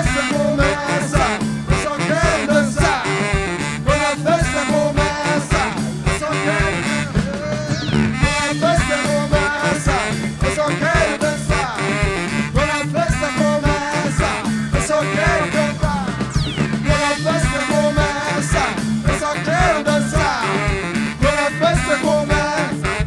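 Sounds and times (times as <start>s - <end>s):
live band playing dance song: 0.0s - 23.0s.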